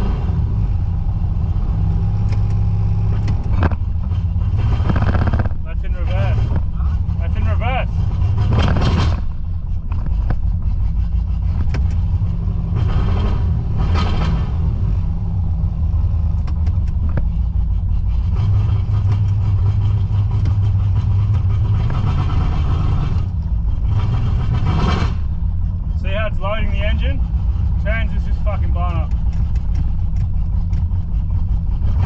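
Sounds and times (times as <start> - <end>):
car engine rumbling under load: 0.0 - 32.0.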